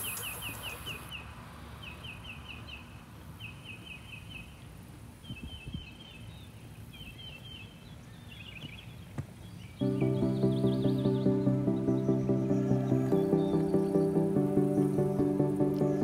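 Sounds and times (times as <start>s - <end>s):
faint outdoor background noise: 0.0s - 16.0s
songbird chirping: 0.0s - 16.0s.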